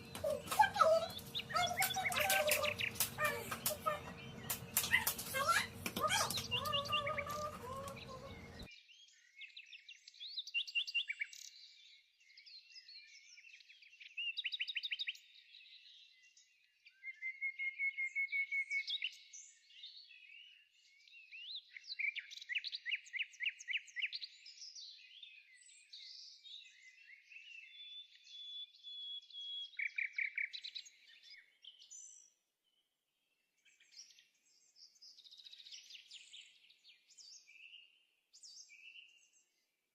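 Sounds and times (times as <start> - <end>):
songbirds singing: 0.0 - 32.9, 33.6 - 39.7.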